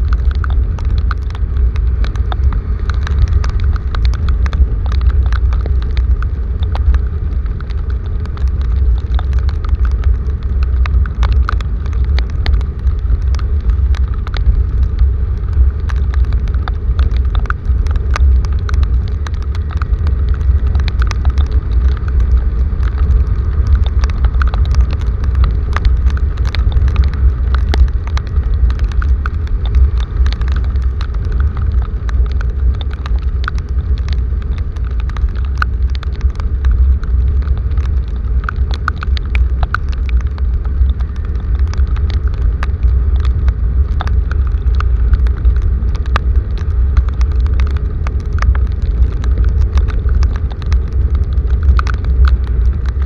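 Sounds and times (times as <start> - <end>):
heavy rain falling: 0.0 - 53.0
low rumble: 0.0 - 53.0
raindrops hitting near microphone: 0.0 - 53.0.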